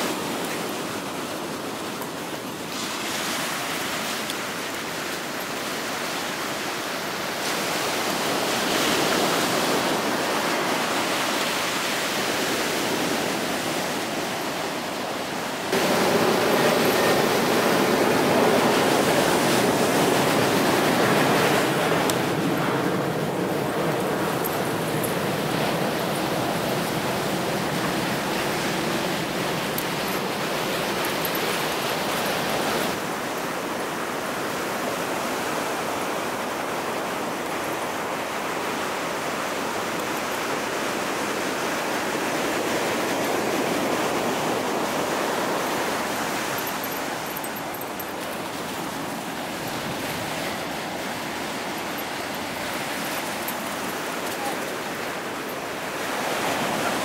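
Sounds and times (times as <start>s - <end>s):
ocean surf rushing: 0.0s - 57.0s.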